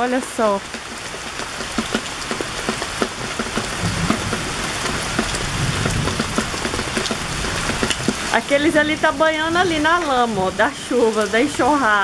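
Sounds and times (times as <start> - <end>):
heavy rain on water: 0.0 - 12.0.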